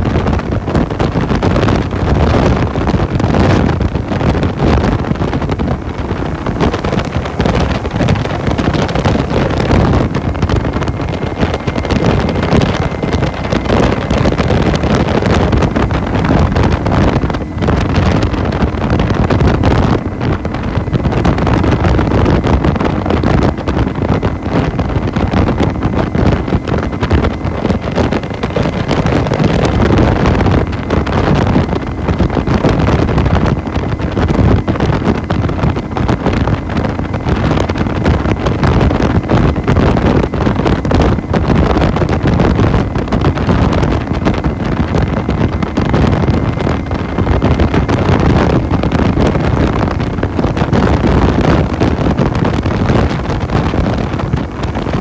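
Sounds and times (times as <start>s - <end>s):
motorcycle engine: 0.0s - 55.0s
road noise: 0.0s - 55.0s
wind buffeting microphone: 0.0s - 55.0s.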